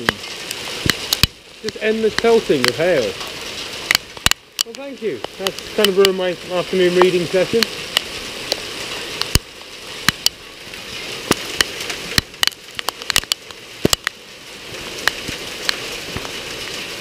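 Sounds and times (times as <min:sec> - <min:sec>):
hailstones ticking: 0:00.0 - 0:17.0
heavy rain hissing: 0:00.0 - 0:17.0.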